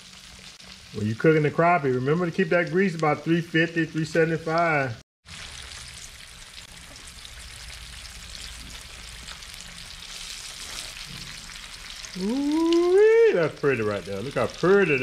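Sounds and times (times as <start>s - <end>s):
fish deep-frying with crackling: 0.0s - 15.0s.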